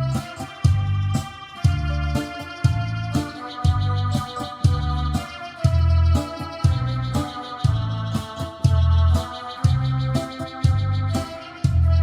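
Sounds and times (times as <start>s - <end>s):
electronic keyboard trot music: 0.0s - 12.0s.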